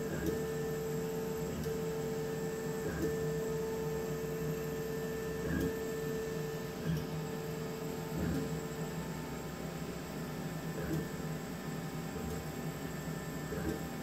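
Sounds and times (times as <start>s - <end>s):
laser cutter humming: 0.0s - 14.0s.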